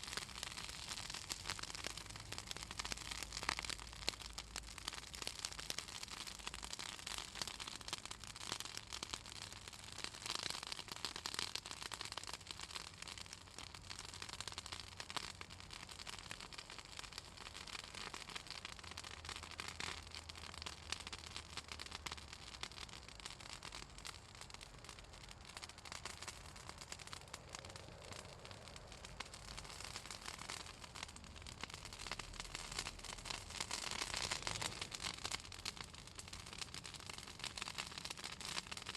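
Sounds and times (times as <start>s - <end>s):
bonfire crackling and popping: 0.0s - 38.9s.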